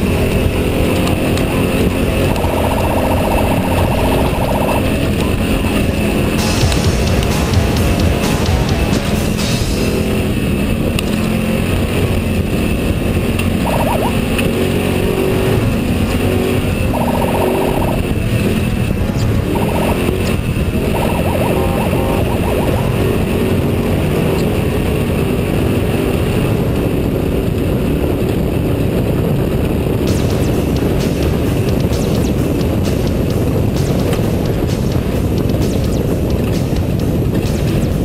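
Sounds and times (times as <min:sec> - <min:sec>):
truck engine running hard: 0:00.0 - 0:38.0.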